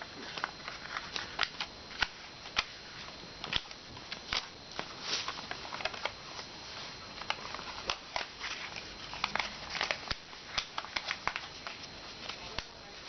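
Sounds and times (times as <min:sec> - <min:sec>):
paper being folded and creased: 0:00.0 - 0:13.0
steady hiss: 0:00.0 - 0:13.0.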